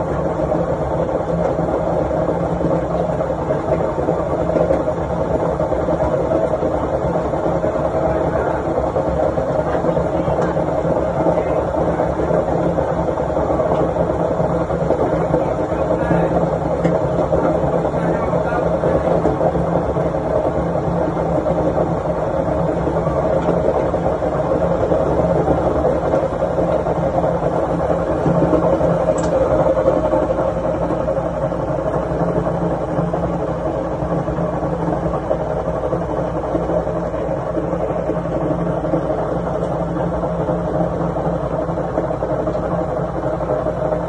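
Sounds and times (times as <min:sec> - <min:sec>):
washing machine running loudly: 0:00.0 - 0:44.0.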